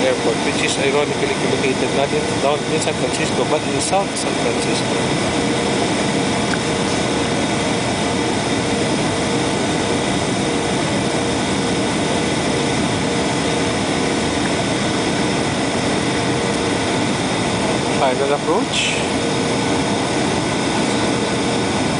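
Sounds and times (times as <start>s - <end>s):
jet engine and airflow noise: 0.0s - 21.9s
thin steady hum: 0.0s - 21.9s.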